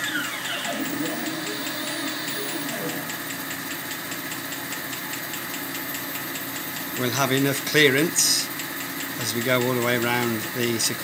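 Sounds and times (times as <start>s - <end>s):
milling machine hum: 0.0s - 9.6s
faint motor whines: 0.0s - 11.0s.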